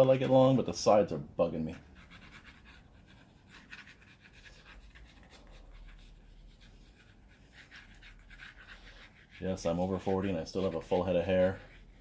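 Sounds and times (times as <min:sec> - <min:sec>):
pencil scratching on paper: 0:01.8 - 0:12.0.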